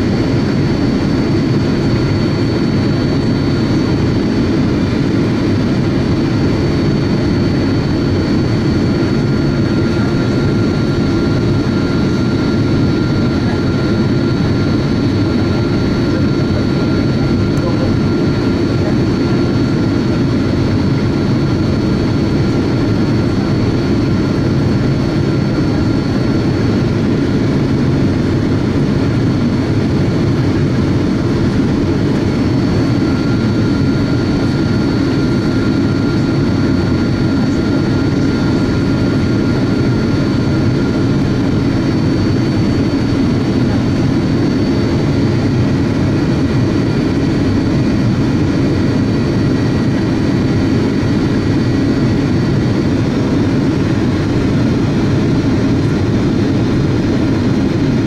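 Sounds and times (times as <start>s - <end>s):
jet engine and airflow rush: 0.0s - 58.0s
thin steady whines: 0.0s - 58.0s.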